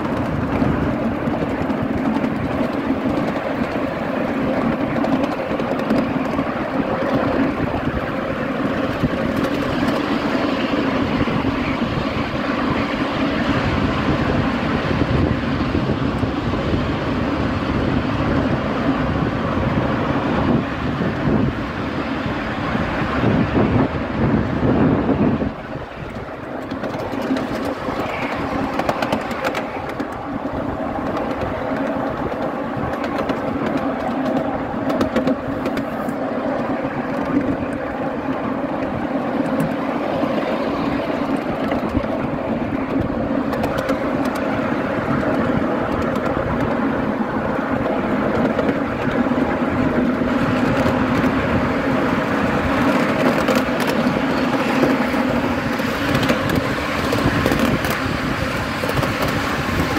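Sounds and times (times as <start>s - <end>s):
rail joint clicks: 0.0s - 59.9s
steel wheels rumbling on rail: 0.0s - 59.9s.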